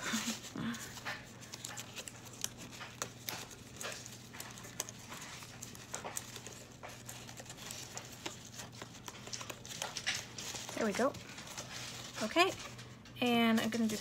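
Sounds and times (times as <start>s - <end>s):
paper clicks taps and rustles: 0.1s - 14.0s.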